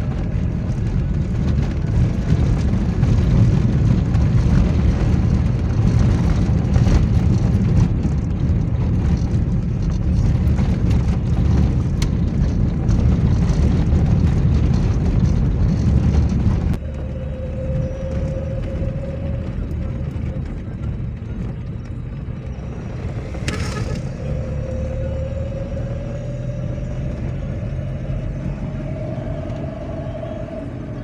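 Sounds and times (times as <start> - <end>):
vehicle rumbling on dirt road: 0.0 - 31.0.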